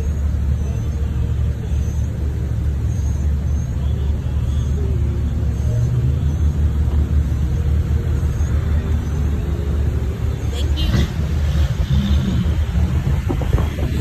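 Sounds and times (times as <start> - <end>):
car engines idling: 0.0 - 14.0.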